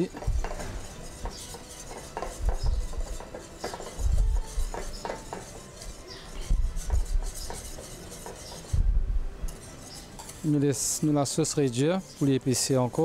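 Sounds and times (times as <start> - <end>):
whisk scraping and clicking on pan: 0.0 - 8.8, 9.5 - 13.0.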